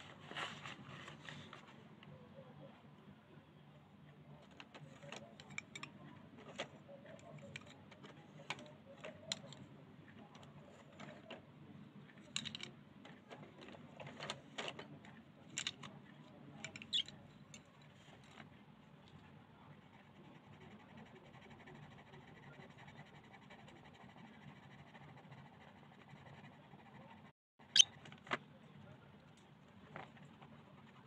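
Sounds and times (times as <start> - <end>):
pencils and markers clicking and rattling: 4.1 - 31.0.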